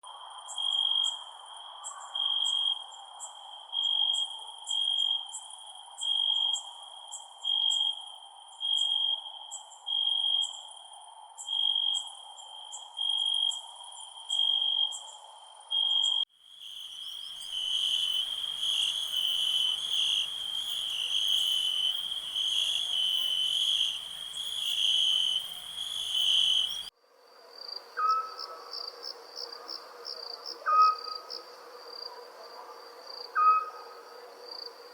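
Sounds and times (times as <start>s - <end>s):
crickets chirping: 0.1s - 34.9s
low insect drone: 0.1s - 34.9s.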